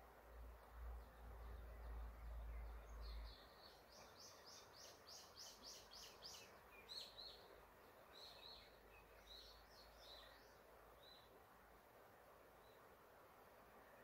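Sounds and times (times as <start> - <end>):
faint river rush: 0.0 - 14.0.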